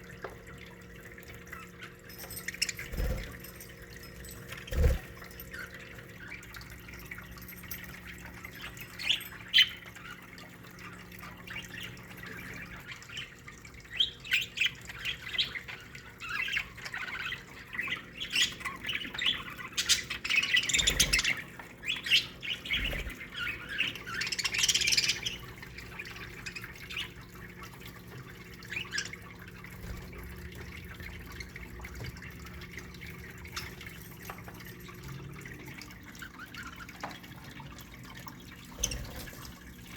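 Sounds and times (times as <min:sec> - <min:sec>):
budgerigars chirping and warbling: 0:01.4 - 0:06.5, 0:08.1 - 0:34.9, 0:38.2 - 0:39.9.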